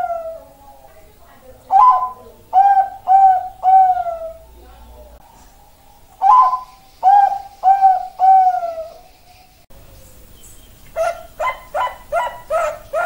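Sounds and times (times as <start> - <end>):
dove cooing: 0.0 - 9.4, 11.0 - 13.0.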